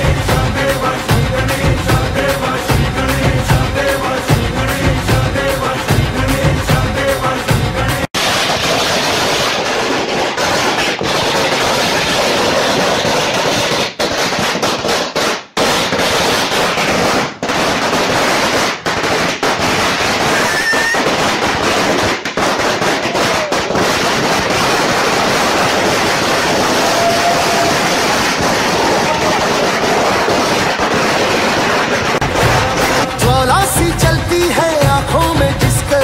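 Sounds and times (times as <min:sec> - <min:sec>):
firecrackers crackling: 0:00.0 - 0:36.0.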